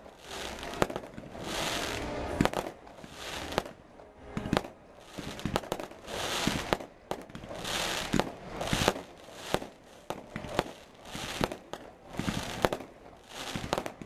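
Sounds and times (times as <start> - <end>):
firework hiss: 0.0 - 3.8, 4.4 - 14.0
firework shells bursting: 0.0 - 14.0.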